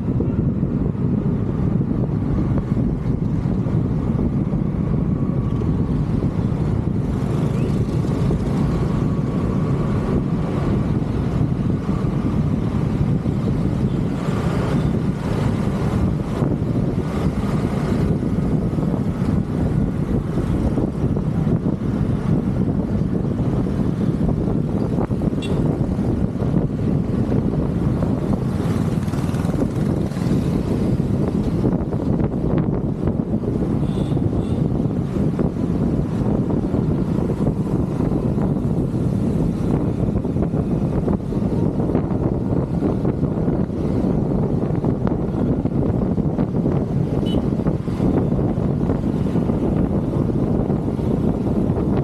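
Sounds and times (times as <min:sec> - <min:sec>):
surrounding traffic: 0:00.0 - 0:52.0
wind buffeting microphone: 0:00.0 - 0:52.0.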